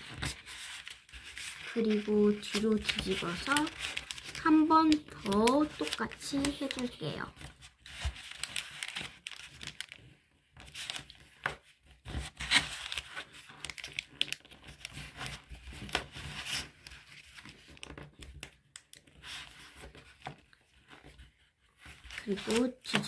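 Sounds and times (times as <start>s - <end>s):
paper rustling and crinkling: 0.0s - 23.0s.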